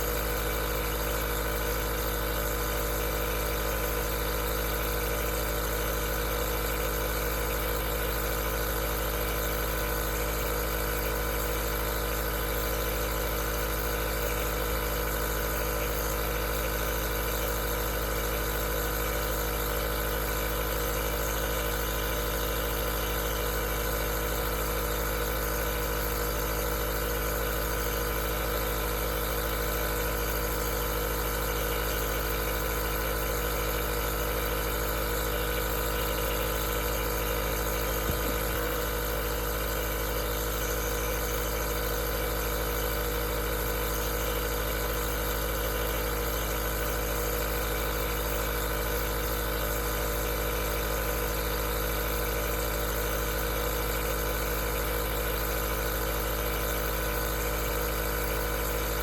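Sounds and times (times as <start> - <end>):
nebulizer compressor humming: 0.0 - 59.0.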